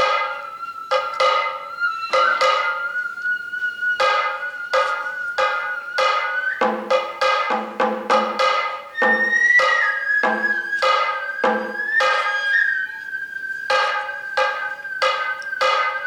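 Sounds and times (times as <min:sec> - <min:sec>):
drum strikes: 0:00.0 - 0:03.0, 0:04.0 - 0:12.8, 0:13.7 - 0:16.0
flute high melody: 0:00.0 - 0:16.0.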